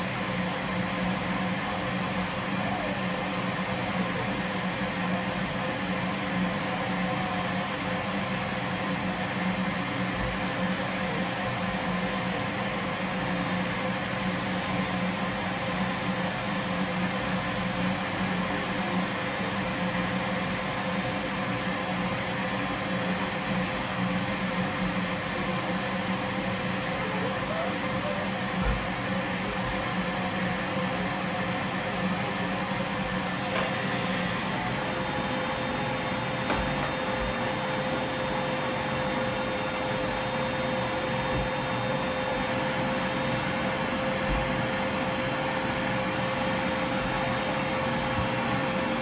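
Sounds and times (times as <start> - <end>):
vacuum cleaner running: 0.0 - 49.0.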